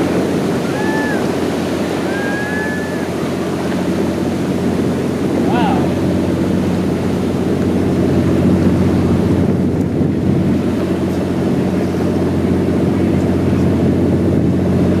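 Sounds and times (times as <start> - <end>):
boat engine droning: 0.0 - 15.0
sea: 0.0 - 15.0
wind: 0.0 - 15.0.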